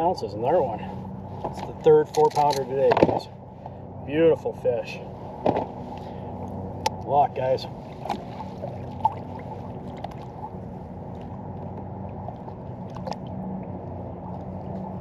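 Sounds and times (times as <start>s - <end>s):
low steady hum: 0.0s - 15.0s
water lapping against hull: 0.0s - 15.0s.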